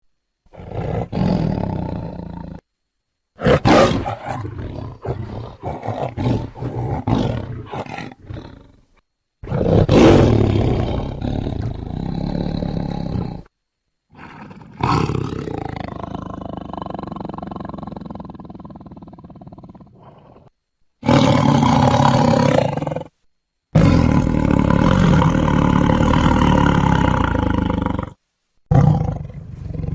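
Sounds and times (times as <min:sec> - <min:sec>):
tiger roaring: 0:00.5 - 0:02.6, 0:03.4 - 0:13.5, 0:14.1 - 0:29.9
tiger short growls: 0:03.4 - 0:13.5, 0:14.1 - 0:23.2, 0:23.8 - 0:29.9.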